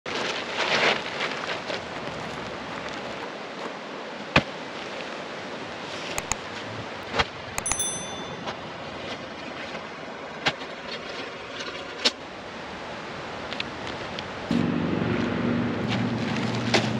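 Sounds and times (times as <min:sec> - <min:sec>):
rushing river or wind: 0:00.1 - 0:16.9.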